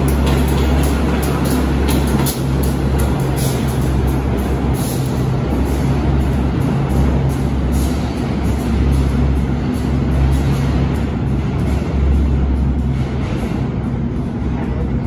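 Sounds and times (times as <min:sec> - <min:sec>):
locomotive engine drone: 0:00.0 - 0:15.0
wheels clattering on rails: 0:00.0 - 0:15.0.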